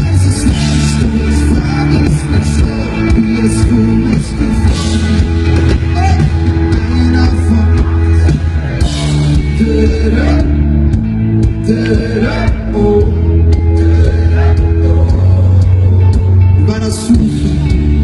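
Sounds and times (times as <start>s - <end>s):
bass line: 0.0s - 18.0s
electric guitar: 0.0s - 18.0s.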